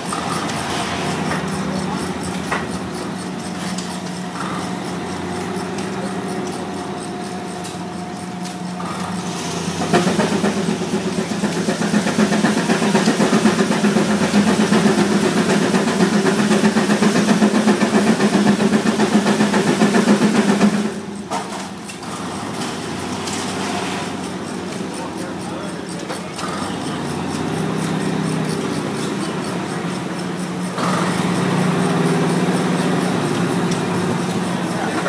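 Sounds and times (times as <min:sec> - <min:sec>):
steam engine driving sawmill: 0:00.0 - 0:35.0.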